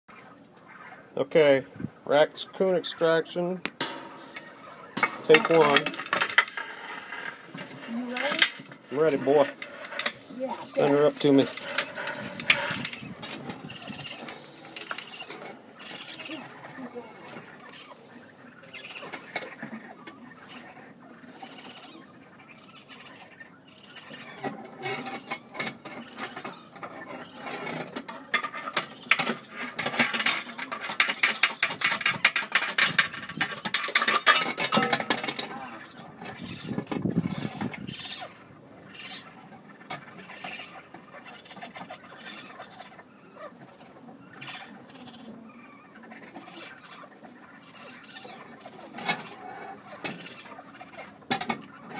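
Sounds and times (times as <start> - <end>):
animal scratching in chimney flue: 4.2 - 51.9.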